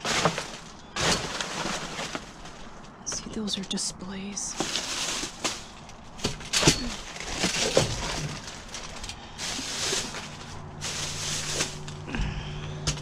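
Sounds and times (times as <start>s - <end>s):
plastic bags rustling and crinkling: 0.0s - 13.0s.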